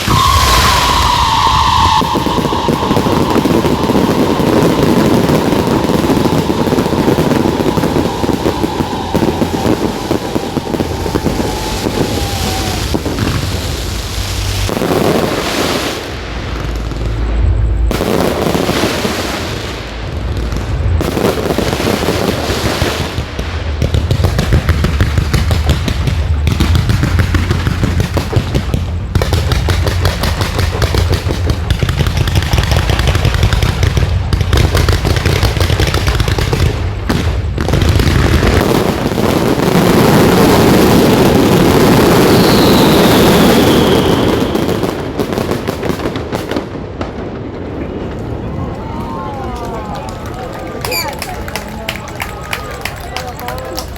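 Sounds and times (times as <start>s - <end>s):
falling firework whistle: 0.0s - 23.4s, 24.1s - 46.6s, 50.8s - 51.4s
fireworks bursting and crackling: 0.0s - 53.9s.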